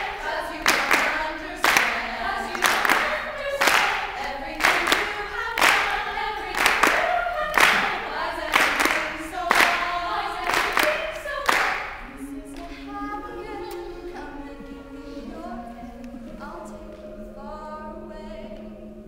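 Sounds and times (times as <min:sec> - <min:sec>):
women singing a cappella: 0:00.0 - 0:19.0.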